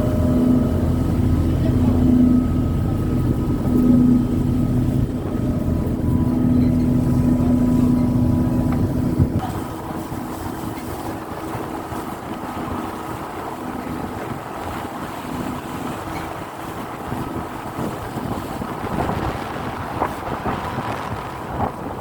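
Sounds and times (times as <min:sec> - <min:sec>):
boat engine hum: 0:00.0 - 0:22.0
water noise: 0:00.0 - 0:22.0
wind buffeting microphone: 0:00.0 - 0:22.0.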